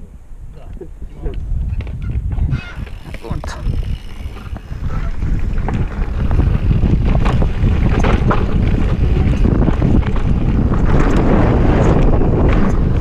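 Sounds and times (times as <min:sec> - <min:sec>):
wind buffeting microphone: 0:00.0 - 0:13.0
bike clicks and rattles: 0:01.4 - 0:13.0
bike tyres rumbling over dirt: 0:01.4 - 0:13.0.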